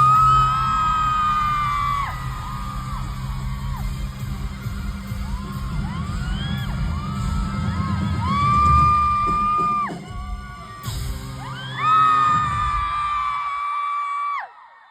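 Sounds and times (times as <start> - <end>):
amplified band music: 0.0 - 13.0
crowd screaming and cheering: 0.0 - 14.9.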